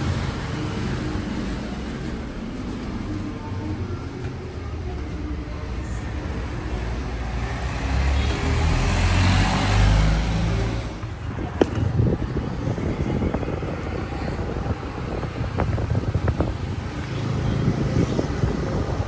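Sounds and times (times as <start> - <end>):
vehicle passing close: 0.0 - 19.0.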